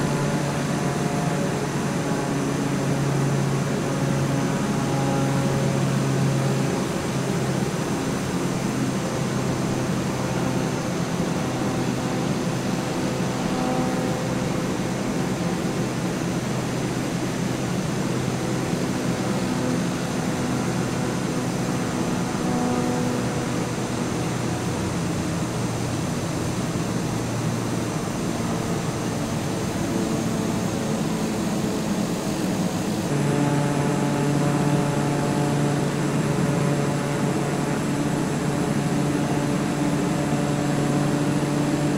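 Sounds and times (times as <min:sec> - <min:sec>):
engine drone: 0:00.0 - 0:41.9.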